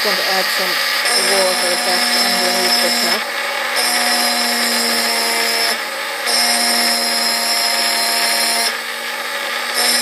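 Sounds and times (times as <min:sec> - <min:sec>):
rotary drill grinding glass: 0:00.0 - 0:10.0.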